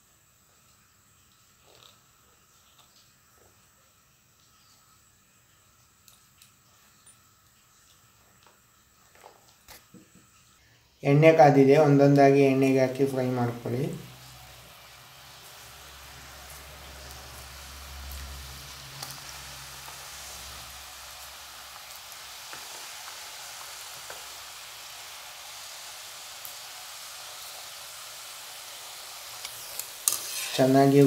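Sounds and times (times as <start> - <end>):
dough sizzling in hot oil: 0.0 - 31.0.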